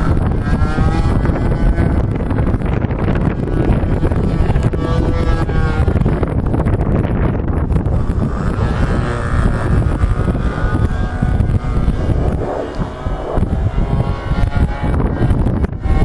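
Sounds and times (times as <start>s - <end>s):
model aircraft engine whine: 0.0s - 16.0s
wind buffeting microphone: 0.0s - 16.0s.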